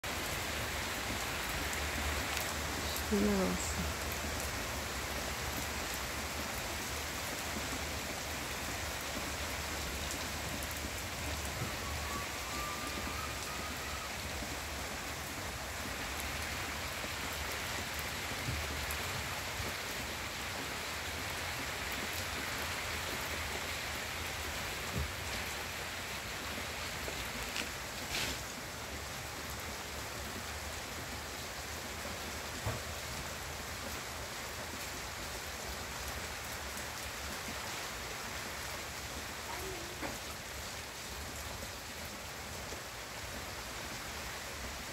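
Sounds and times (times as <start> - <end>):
rain falling on leaves: 0.0 - 44.9.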